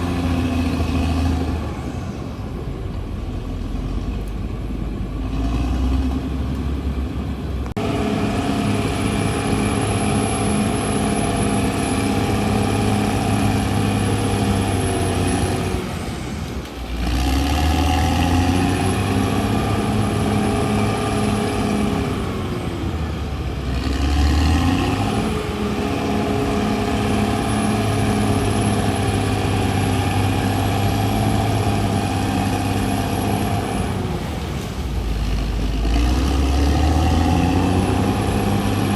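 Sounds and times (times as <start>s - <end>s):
bulldozer diesel engine revving: 0.0s - 38.9s.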